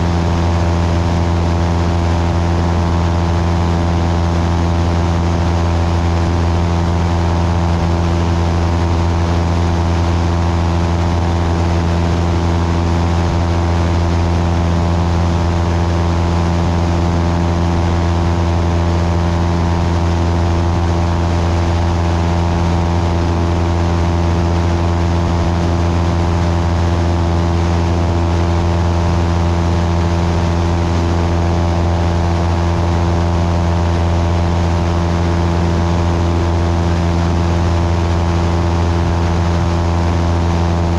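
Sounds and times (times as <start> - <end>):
airplane engine drone in flight: 0.0 - 40.9.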